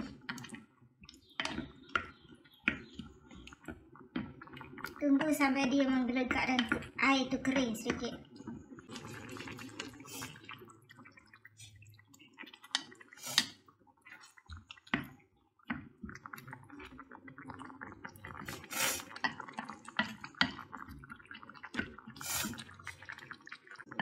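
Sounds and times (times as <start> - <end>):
thick gravy bubbling: 0.0 - 24.0
wooden spoon stirring and scraping: 0.0 - 24.0.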